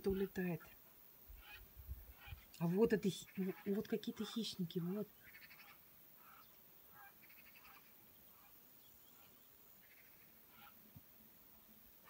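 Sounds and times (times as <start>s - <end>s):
distant birds harsh cries: 0.0s - 10.9s.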